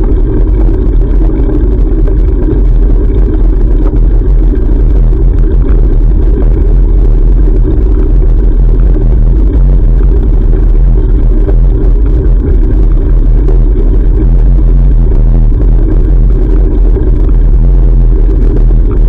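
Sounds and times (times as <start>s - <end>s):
wind and road noise rumble: 0.0s - 19.0s.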